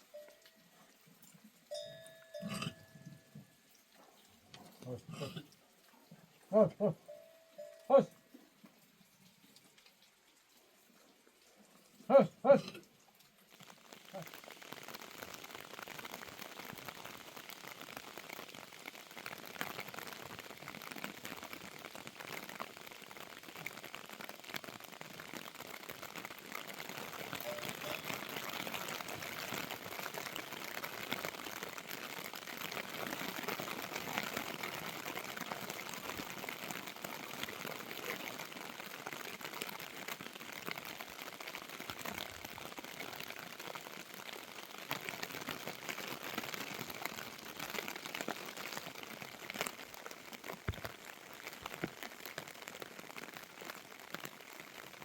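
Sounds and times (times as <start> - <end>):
steady rain pattering: 0.0 - 55.0.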